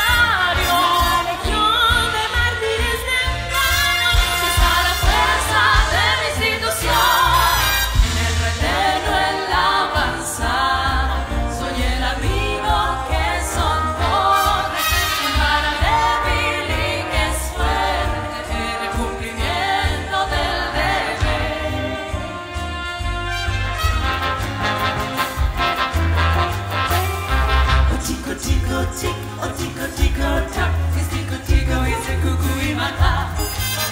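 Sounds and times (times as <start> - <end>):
people singing: 0.0 - 26.1, 27.0 - 33.9
live big band music: 0.0 - 33.9.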